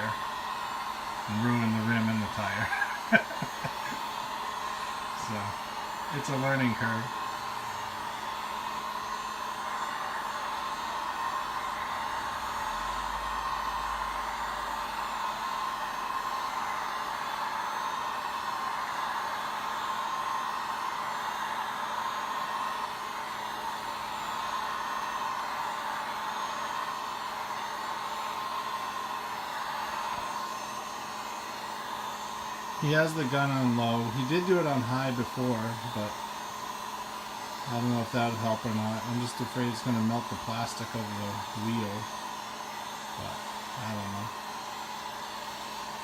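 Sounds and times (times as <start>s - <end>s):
heat gun fan whirring: 0.0s - 46.0s.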